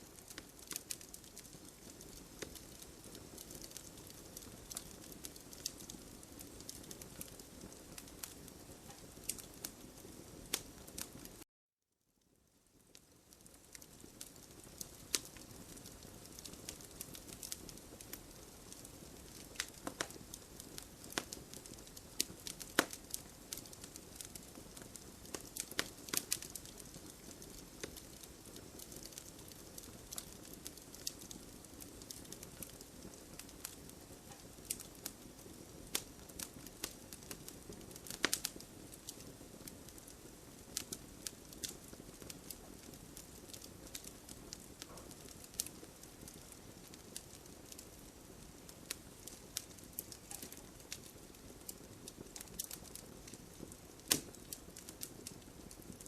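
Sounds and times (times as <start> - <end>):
wood fire crackling in fireplace: 0.0 - 11.4, 12.2 - 56.0.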